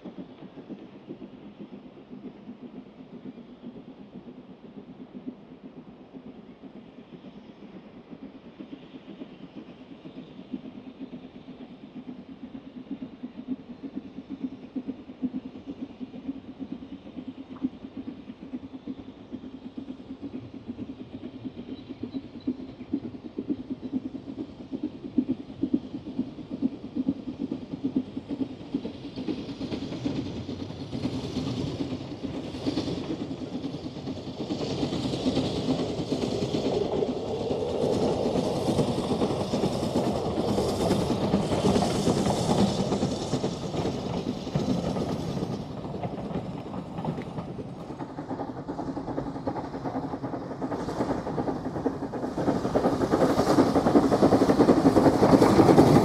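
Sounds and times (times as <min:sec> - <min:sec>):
steam locomotive running: 0:00.0 - 0:56.0.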